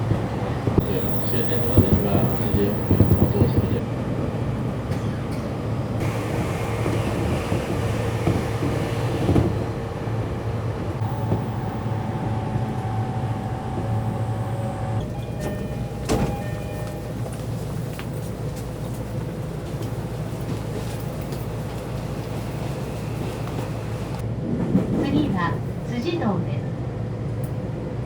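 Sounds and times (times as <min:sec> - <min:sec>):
train rumbling: 0:00.0 - 0:28.0.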